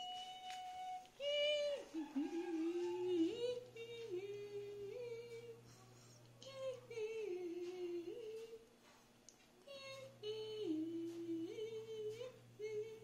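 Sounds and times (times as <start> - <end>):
person humming slow tune: 0.0 - 8.6, 9.6 - 13.0.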